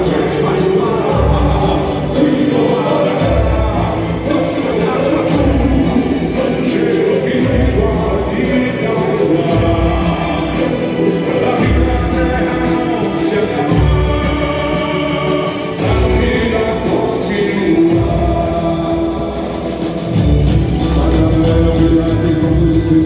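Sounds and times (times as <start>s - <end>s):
lead and choir voices singing: 0.0s - 23.0s.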